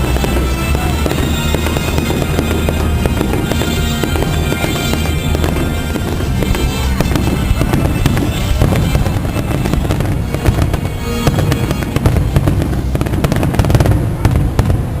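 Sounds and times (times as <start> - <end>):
loud music over sound system: 0.0 - 12.6
fireworks bangs and crackles: 0.0 - 15.0.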